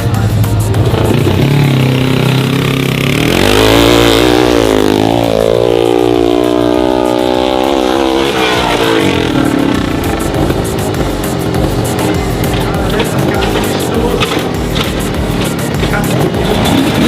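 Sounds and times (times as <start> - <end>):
dirt bike engine revving: 0.7 - 17.0.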